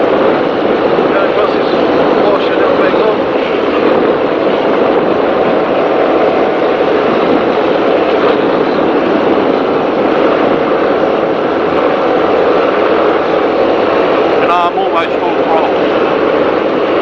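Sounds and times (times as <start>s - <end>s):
powerboat engine drone: 0.0s - 17.0s
rushing wind and water: 0.0s - 17.0s.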